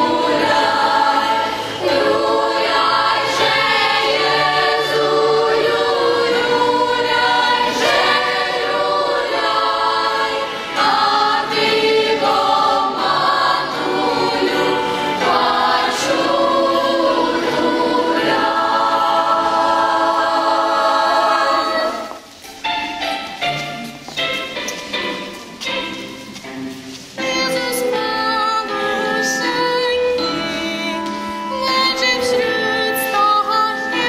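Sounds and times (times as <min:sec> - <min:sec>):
children's choir singing: 0:00.0 - 0:34.0.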